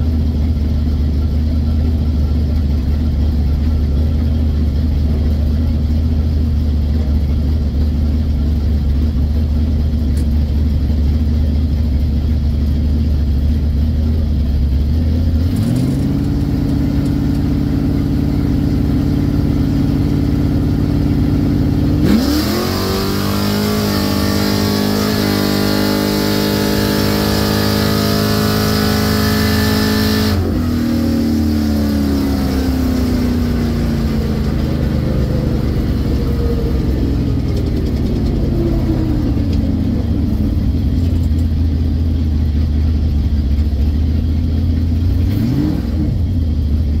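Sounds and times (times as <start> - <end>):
drag car engine at full throttle: 0.0 - 47.0.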